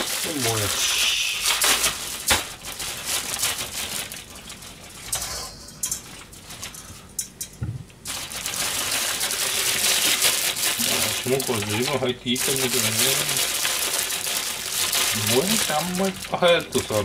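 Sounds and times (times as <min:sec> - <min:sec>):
rustling: 0:00.0 - 0:05.2, 0:08.0 - 0:17.0.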